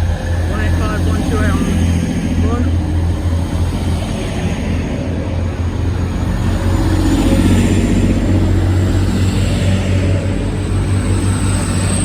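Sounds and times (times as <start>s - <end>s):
train engine drone: 0.0s - 12.0s.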